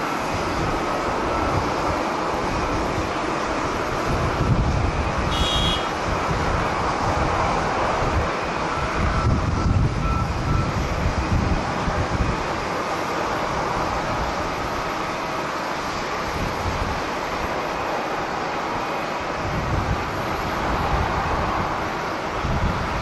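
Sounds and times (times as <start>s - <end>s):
jet airliner engine noise: 0.0s - 23.0s
wind buffeting microphone: 0.2s - 15.2s, 15.8s - 17.8s, 19.2s - 23.0s.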